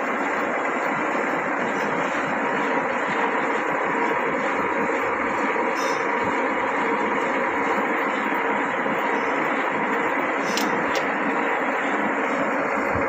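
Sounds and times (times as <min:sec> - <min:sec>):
lathe running with constant whir: 0:00.0 - 0:13.0.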